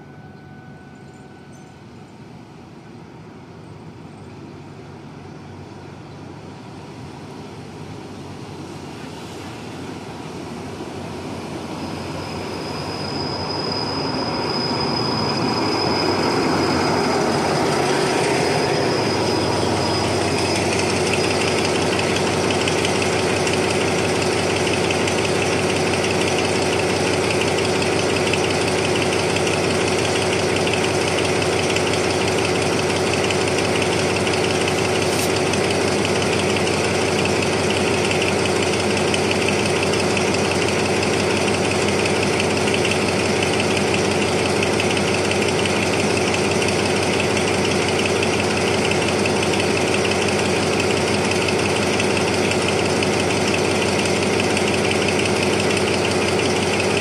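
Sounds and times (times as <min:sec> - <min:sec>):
high brake squeal: 0:00.0 - 0:02.4, 0:11.4 - 0:57.0
diesel locomotive arriving: 0:00.0 - 0:57.0.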